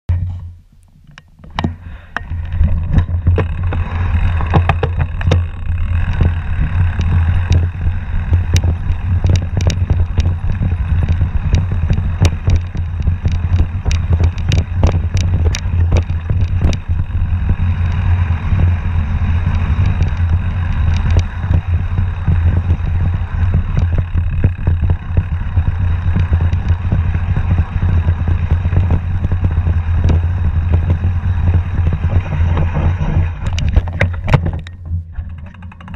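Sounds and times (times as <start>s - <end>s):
bike rattling and clattering: 0.1s - 35.9s
wind rumble on microphone: 1.4s - 35.9s.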